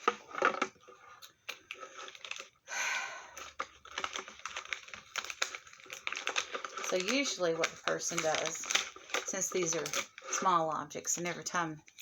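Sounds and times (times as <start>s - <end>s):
paper or plastic rustling: 0.0s - 2.6s, 3.3s - 12.0s
small objects clicking and tapping: 0.0s - 2.6s, 3.3s - 12.0s.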